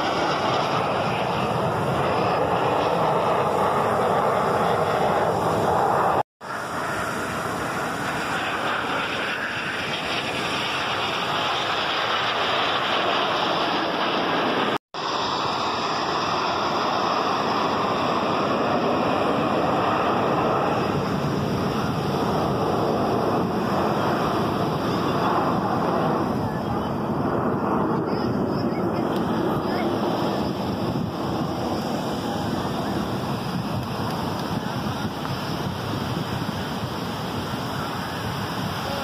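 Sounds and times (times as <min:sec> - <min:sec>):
jet aircraft flying overhead: 0:00.0 - 0:39.0.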